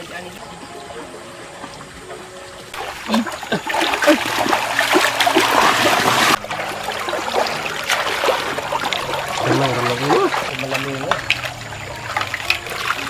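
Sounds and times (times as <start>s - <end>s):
water splashing and sloshing: 0.0s - 13.0s
water trickling: 0.0s - 13.0s.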